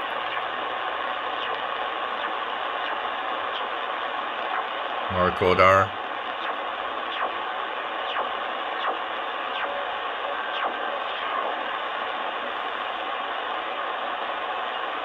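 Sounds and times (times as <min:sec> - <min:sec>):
radio hiss and static: 0:00.0 - 0:15.0.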